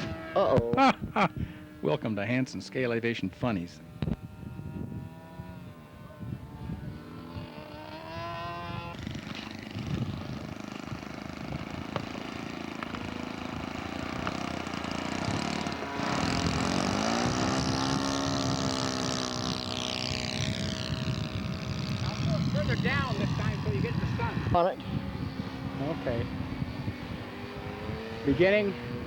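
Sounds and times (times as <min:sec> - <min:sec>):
model airplane engine running: 0:00.0 - 0:29.0.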